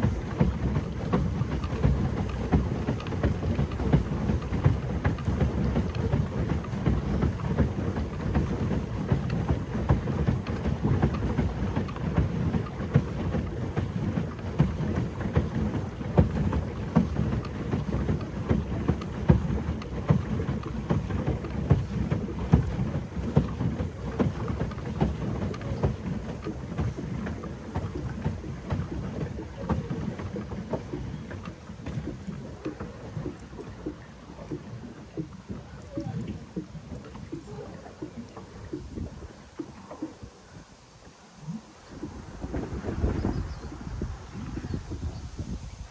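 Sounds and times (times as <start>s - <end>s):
small irregular splashes: 0.0s - 45.9s
water splashing and churning: 0.0s - 45.9s.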